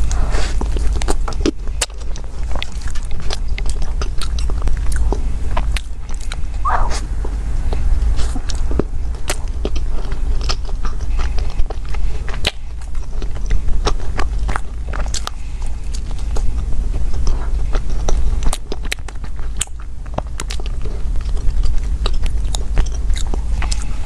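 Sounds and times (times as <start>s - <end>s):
chewing with wet mouth clicks: 0.0s - 6.5s, 7.7s - 24.0s
steady low hum: 0.0s - 24.0s.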